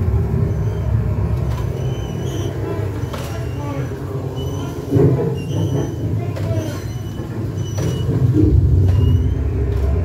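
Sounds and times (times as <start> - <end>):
ride car rumbling on track: 0.0 - 10.0
track clacks: 0.0 - 10.0
wheel squeaks: 0.0 - 10.0.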